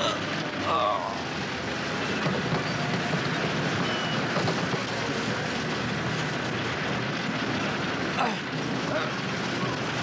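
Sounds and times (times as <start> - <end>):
machinery rumble: 0.0 - 10.0.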